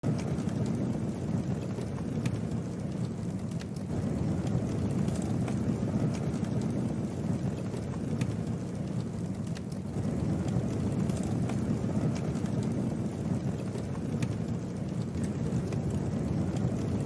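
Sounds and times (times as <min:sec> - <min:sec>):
campfire crackles and pops: 0:00.0 - 0:17.0
fire low rushing: 0:00.0 - 0:17.0.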